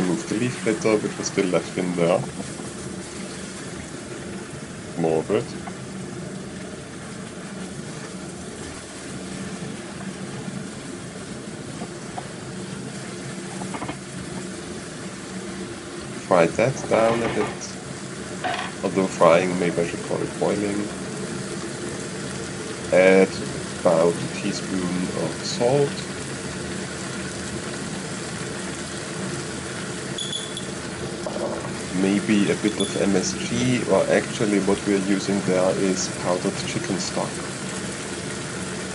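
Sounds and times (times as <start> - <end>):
food hissing in frying pan: 0.0 - 38.9
steady low hum: 0.0 - 38.9.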